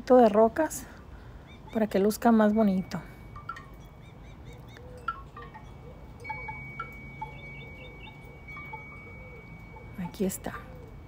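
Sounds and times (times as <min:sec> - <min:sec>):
wind chimes ringing: 0:02.1 - 0:11.0.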